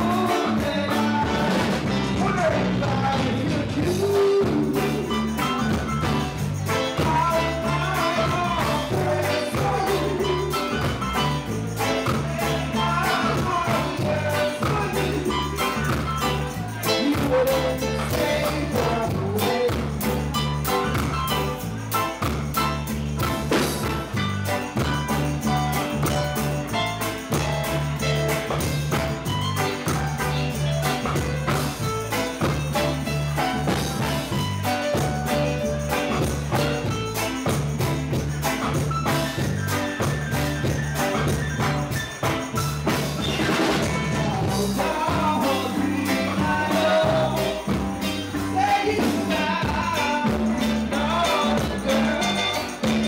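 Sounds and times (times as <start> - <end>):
bass line: 0.0 - 53.0
drums: 0.0 - 53.0
electric guitar: 0.0 - 53.0
keyboard: 0.0 - 53.0.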